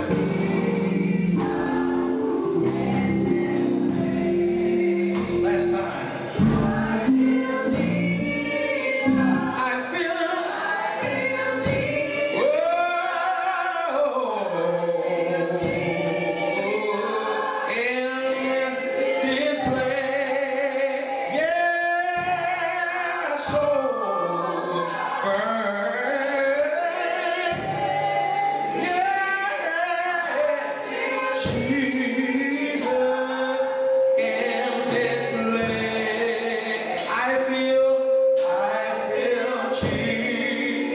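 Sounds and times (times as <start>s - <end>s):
band accompaniment: 0.0s - 40.9s
drum or cymbal hits: 0.0s - 40.9s
gospel choir singing: 0.0s - 40.9s.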